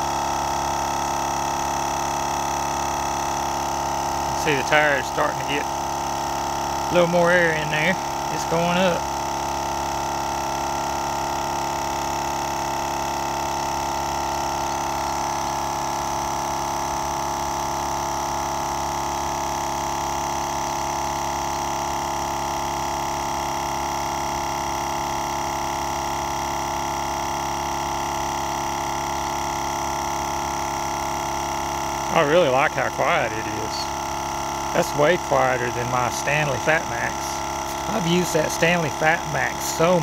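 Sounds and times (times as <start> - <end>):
air compressor humming and whining: 0.0 - 40.0.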